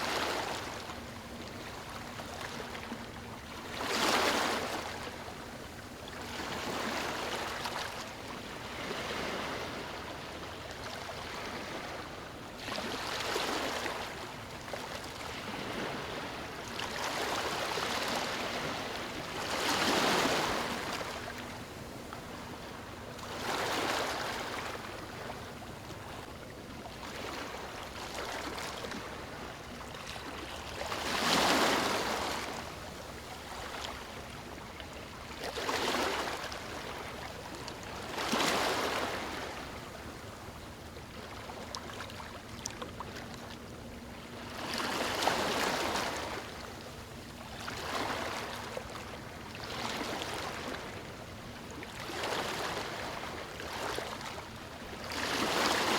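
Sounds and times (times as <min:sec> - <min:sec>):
small waves breaking on beach: 0:00.0 - 0:01.0, 0:01.6 - 0:05.3, 0:06.1 - 0:26.3, 0:26.9 - 0:40.2, 0:44.4 - 0:46.7, 0:47.5 - 0:55.9.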